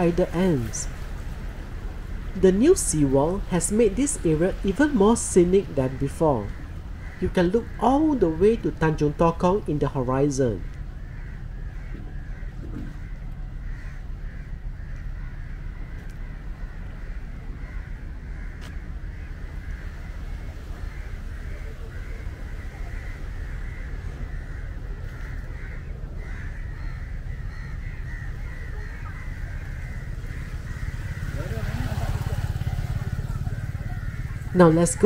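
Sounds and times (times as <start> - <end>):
birds calling: 0.0 - 35.0
steady low rumble: 0.0 - 35.0.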